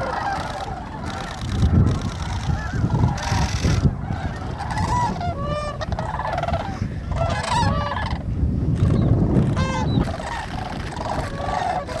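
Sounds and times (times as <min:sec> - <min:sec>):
cranes calling: 0:00.0 - 0:12.0.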